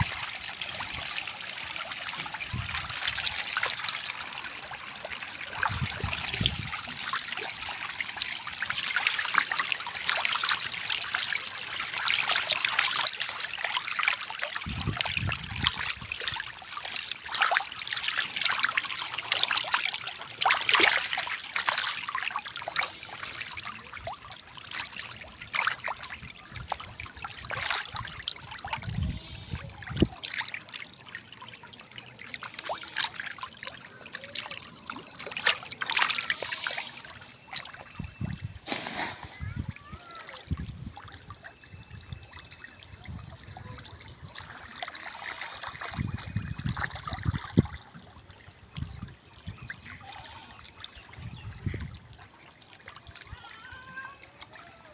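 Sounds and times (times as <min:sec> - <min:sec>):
water trickling and splashing: 0:00.0 - 0:54.9.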